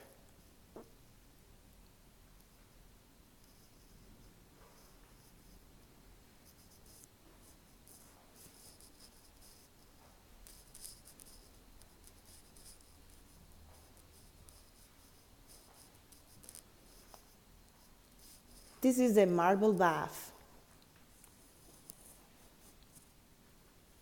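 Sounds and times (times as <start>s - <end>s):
faint low hum: 0.0s - 24.0s
faint rustles and clicks: 2.3s - 24.0s.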